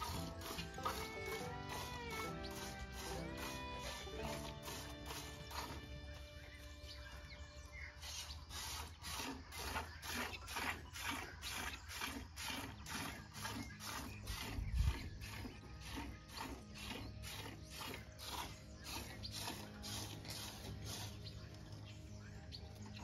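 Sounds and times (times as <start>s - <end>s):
milk squirting into metal pail: 0.0s - 6.3s, 8.0s - 21.3s.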